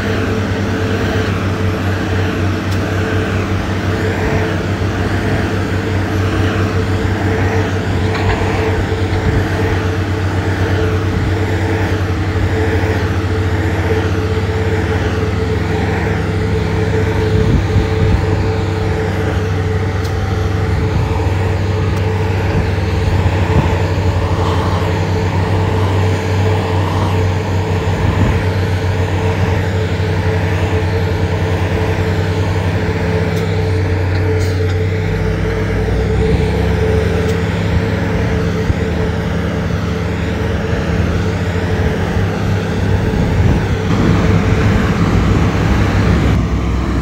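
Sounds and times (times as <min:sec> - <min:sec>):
diesel engine droning: 0:00.0 - 0:47.0.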